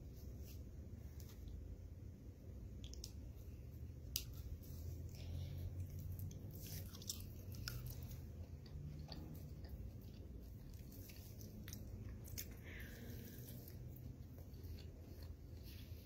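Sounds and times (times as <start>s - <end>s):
steady low hum: 0.0s - 16.0s
wet smacks and squelches: 2.6s - 16.0s.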